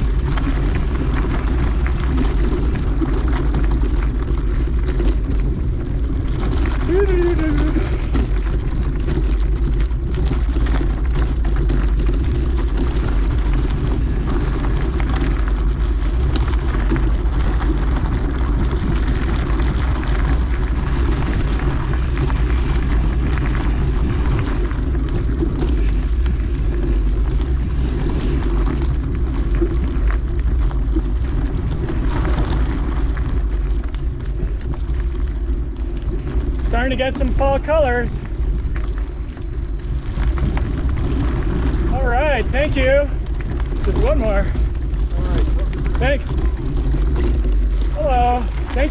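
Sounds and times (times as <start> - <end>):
bike tyres on dirt trail: 0.0 - 48.9
wind rumble on microphone: 0.0 - 48.9.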